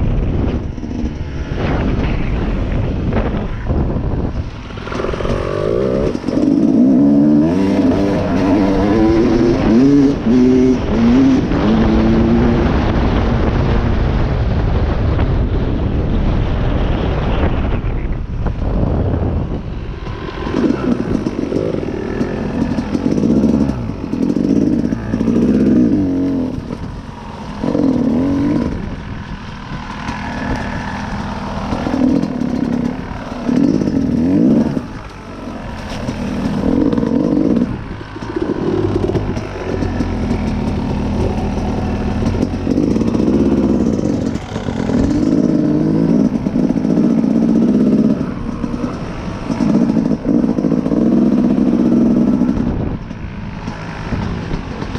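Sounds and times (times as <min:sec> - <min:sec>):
dirt bike engine revving: 0:00.0 - 0:13.7, 0:19.4 - 0:54.9.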